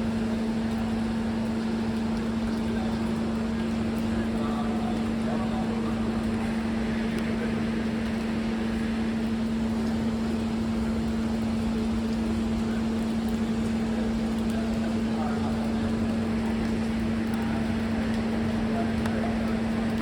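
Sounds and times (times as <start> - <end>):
machinery hum: 2.6 - 20.0.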